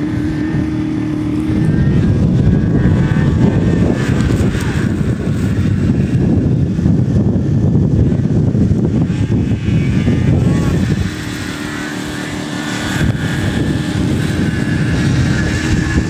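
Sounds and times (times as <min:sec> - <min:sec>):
snowmobile engine: 0:00.0 - 0:16.0.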